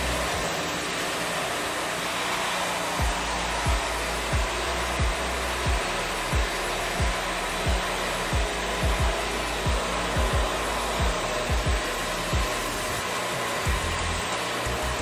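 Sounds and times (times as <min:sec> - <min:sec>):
band saw cutting log: 0:00.0 - 0:15.0.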